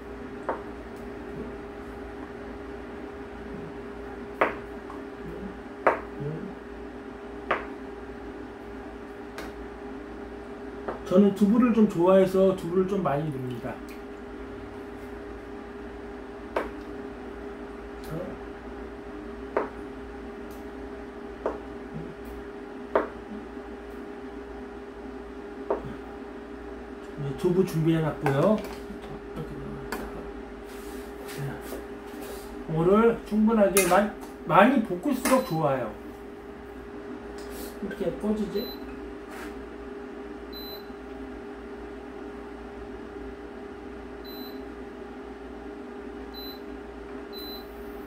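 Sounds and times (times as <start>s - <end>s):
low hum: 0.0s - 39.2s.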